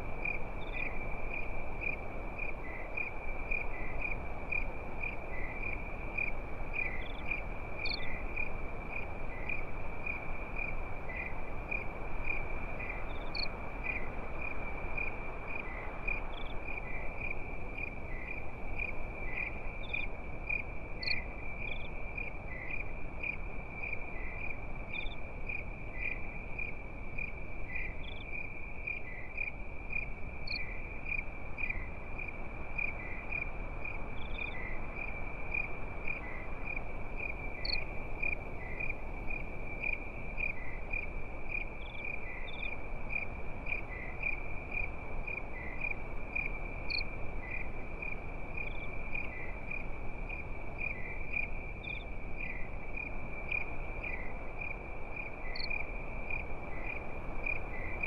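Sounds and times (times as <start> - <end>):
crickets chirping: 0.0 - 58.0
low background hiss: 0.0 - 58.0
higher insect chirps: 0.2 - 58.0.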